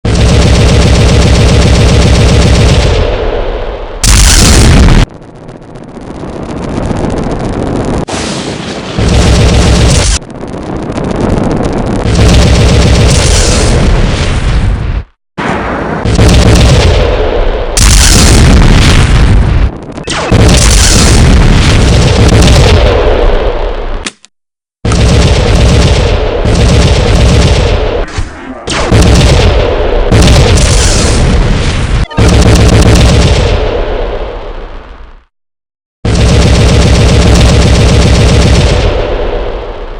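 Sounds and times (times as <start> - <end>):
loud explosion blast: 0.1 - 24.0, 24.9 - 35.3
rumbling: 0.1 - 24.0, 24.9 - 35.3.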